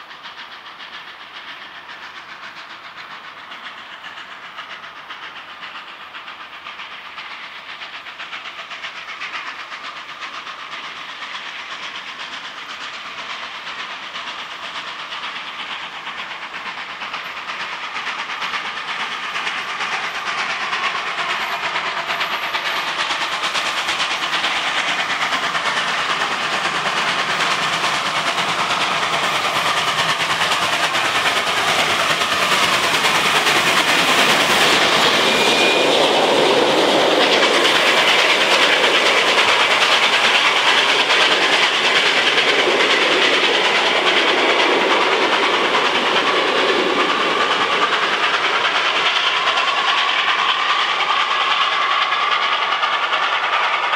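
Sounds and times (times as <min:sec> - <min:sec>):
steam locomotive running: 0:00.0 - 0:53.9.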